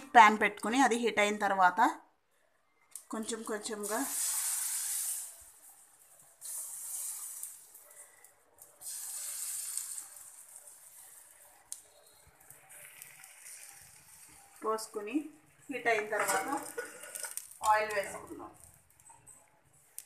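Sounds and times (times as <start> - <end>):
batter sizzling on hot pan: 3.0 - 20.0.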